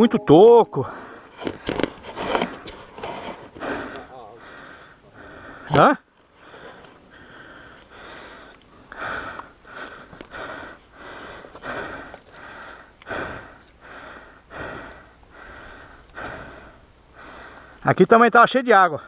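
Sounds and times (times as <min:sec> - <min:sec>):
person breathing hard: 0:00.8 - 0:05.7, 0:06.4 - 0:17.8.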